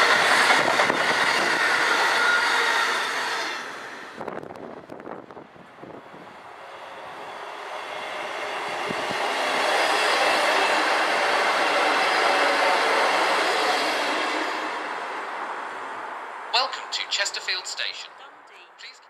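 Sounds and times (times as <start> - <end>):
diesel train passing: 0.0 - 18.6.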